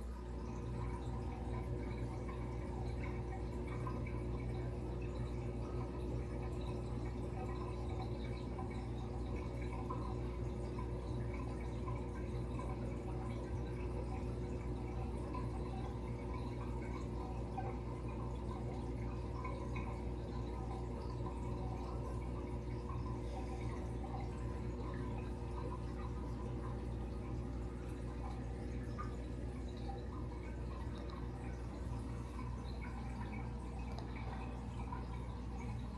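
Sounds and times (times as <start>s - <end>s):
aquarium water trickling and splashing: 0.0s - 35.9s
steady low hum: 0.0s - 35.9s.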